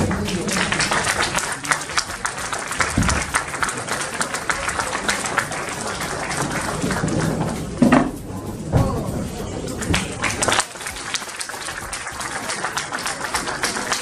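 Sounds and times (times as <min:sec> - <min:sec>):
audience applauding: 0:00.0 - 0:07.8, 0:09.5 - 0:14.0.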